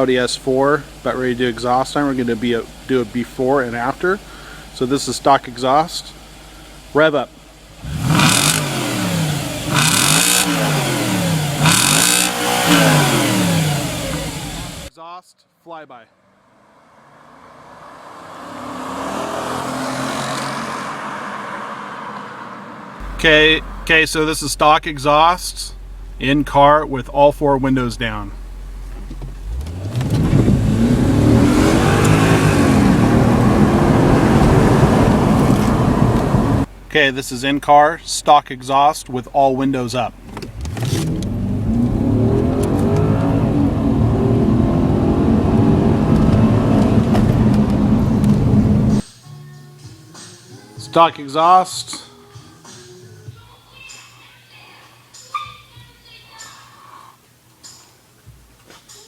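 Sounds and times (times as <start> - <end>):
car engine revving: 0.0 - 14.9, 16.7 - 49.1.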